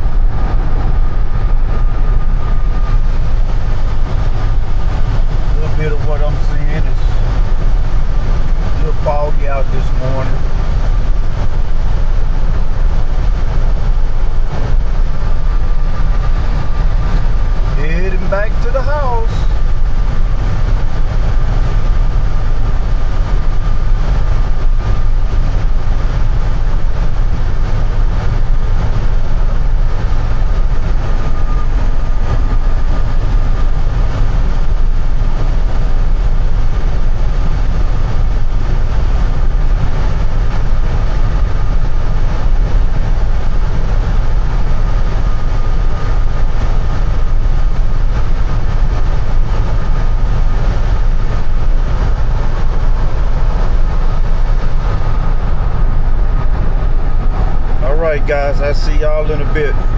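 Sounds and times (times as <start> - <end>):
road and engine rumble: 0.0 - 59.9.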